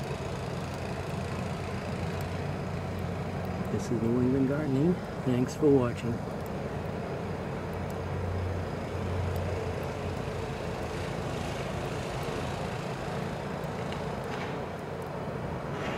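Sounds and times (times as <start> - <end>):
outdoor rumble and hiss: 0.0 - 15.9.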